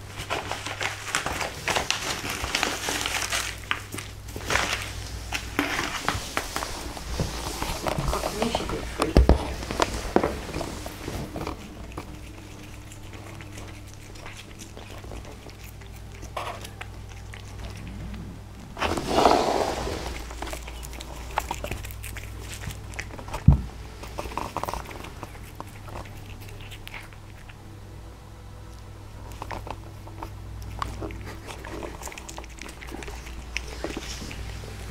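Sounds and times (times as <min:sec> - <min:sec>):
rustling: 0:00.0 - 0:27.6, 0:29.2 - 0:34.9
cat chewing: 0:00.0 - 0:34.9
low hum: 0:00.0 - 0:34.9.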